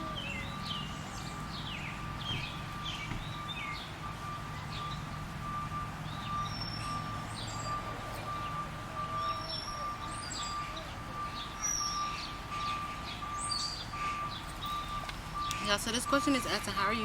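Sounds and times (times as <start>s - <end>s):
low traffic hum: 0.0s - 17.0s
small birds chirping: 0.0s - 17.0s
rapid high beeping: 1.3s - 17.0s.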